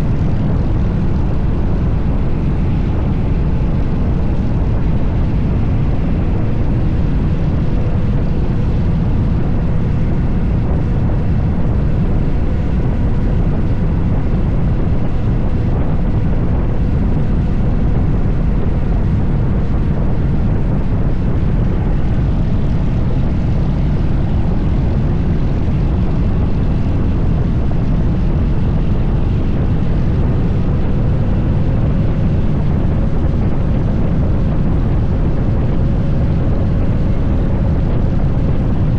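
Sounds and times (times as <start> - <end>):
motorcycle exhaust drone: 0.0 - 38.9
rushing wind: 0.0 - 38.9.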